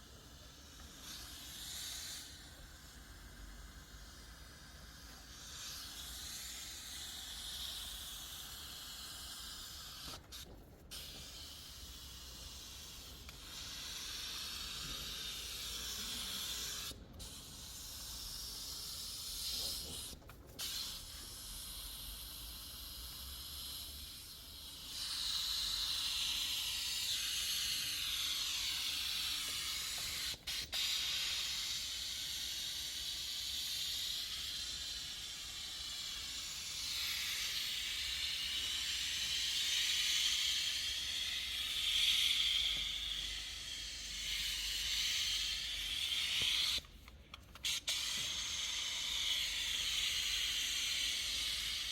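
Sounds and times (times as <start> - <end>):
air jet hissing: 0.0 - 51.9.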